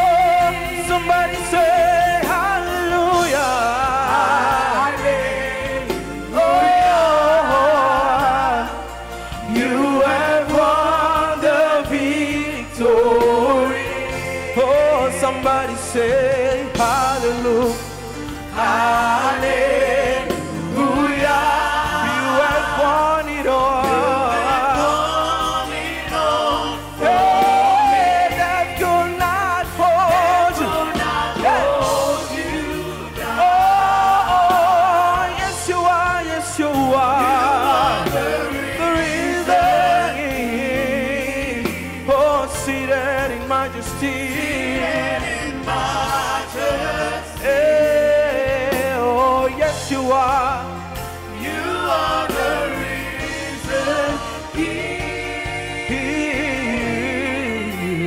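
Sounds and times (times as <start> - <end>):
low musical backing: 0.0 - 58.0
women singing gospel song: 0.0 - 58.0.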